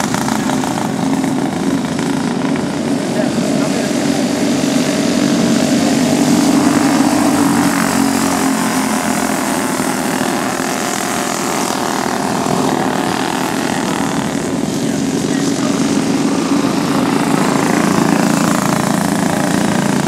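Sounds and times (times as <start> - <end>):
race car engines buzzing: 0.0 - 20.0.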